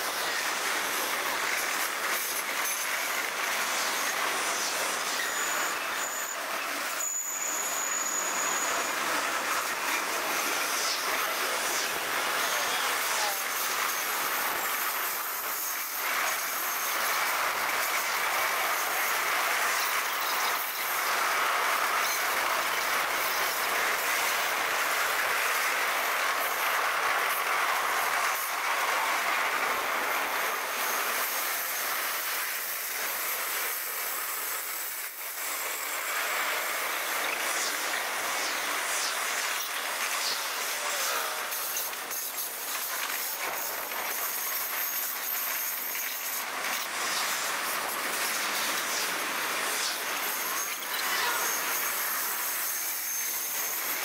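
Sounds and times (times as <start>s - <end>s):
train cars rolling on rails: 0.0s - 54.0s
wheel squeal: 0.0s - 54.0s.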